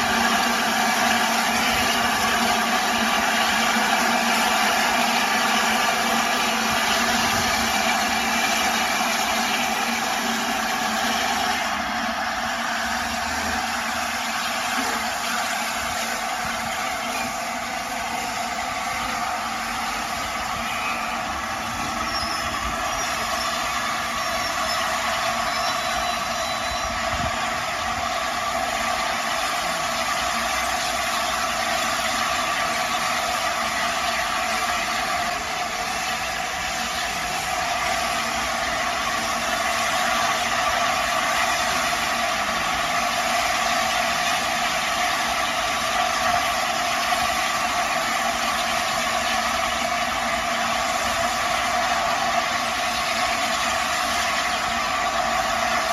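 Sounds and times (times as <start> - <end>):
steam hissing: 0.0 - 55.9.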